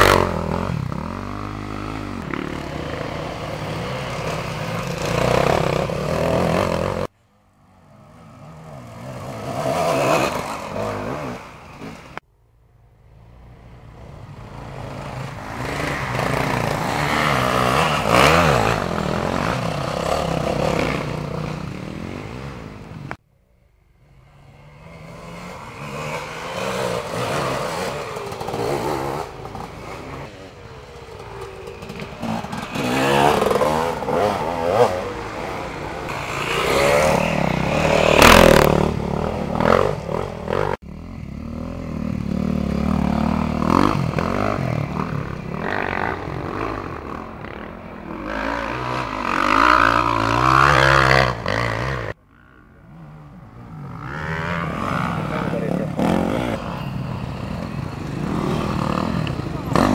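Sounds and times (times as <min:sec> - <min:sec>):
dirt bike engines revving: 0:00.0 - 0:12.2, 0:13.1 - 0:23.2, 0:23.8 - 0:59.9.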